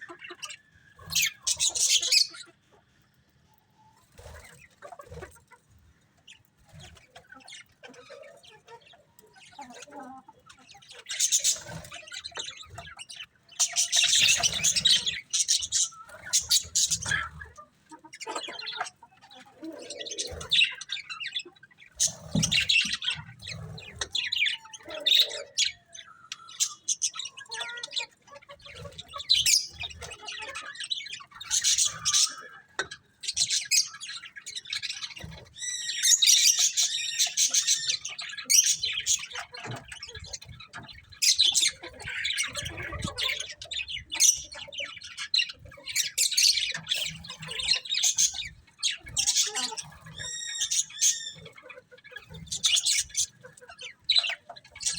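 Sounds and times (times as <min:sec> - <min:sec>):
budgerigars chirping: 0:00.0 - 0:02.6, 0:06.2 - 0:54.9.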